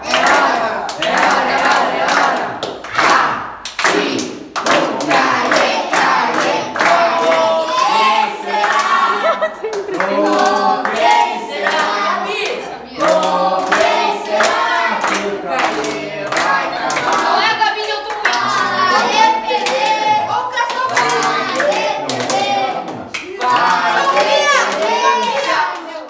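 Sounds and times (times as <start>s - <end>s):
children singing together: 0.0s - 26.0s
people clapping in time: 0.0s - 26.0s.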